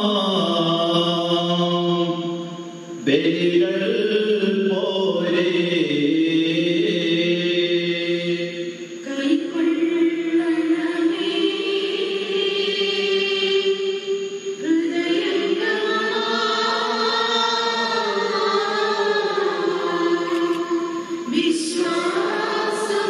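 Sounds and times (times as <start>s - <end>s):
choir singing a slow chant: 0.0s - 23.0s.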